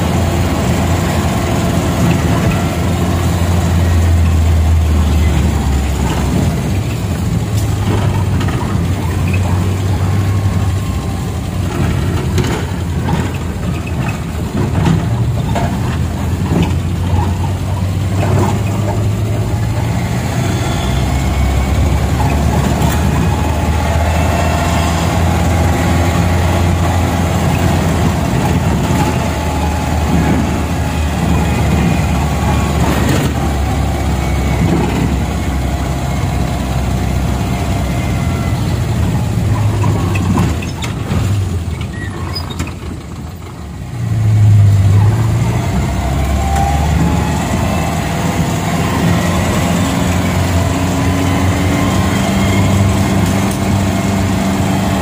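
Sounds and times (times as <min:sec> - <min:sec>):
minibus engine and road noise: 0:00.0 - 0:55.0.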